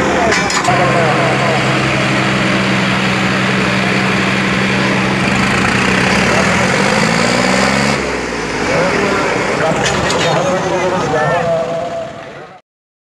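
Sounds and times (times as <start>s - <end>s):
tractor diesel engine running: 0.0s - 12.5s.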